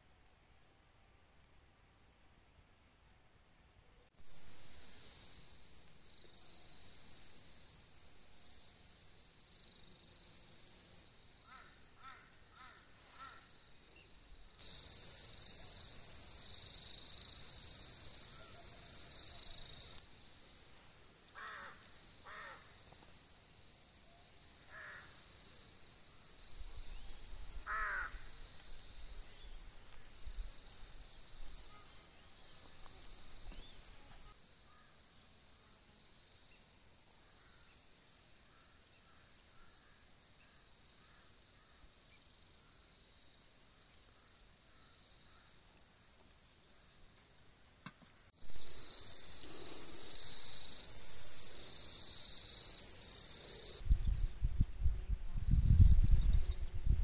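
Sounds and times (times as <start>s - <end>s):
insects chirring: 4.1s - 57.0s.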